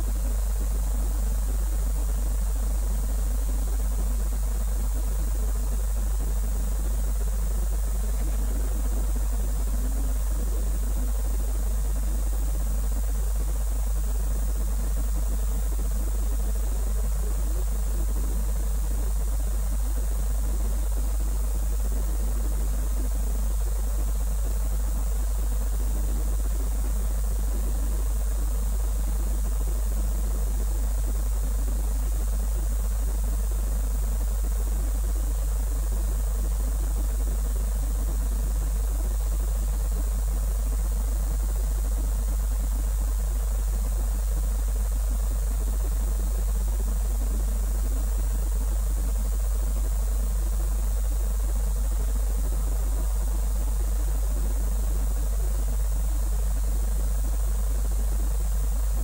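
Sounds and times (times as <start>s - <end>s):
constant hiss: 0.0s - 59.0s
low electrical hum: 0.0s - 59.0s.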